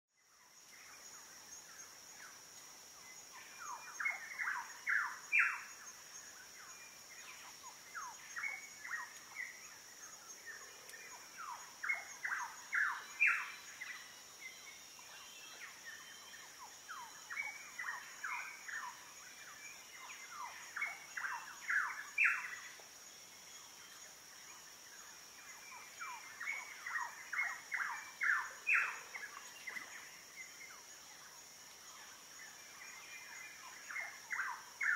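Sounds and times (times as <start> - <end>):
high insect drone: 0.2 - 34.9.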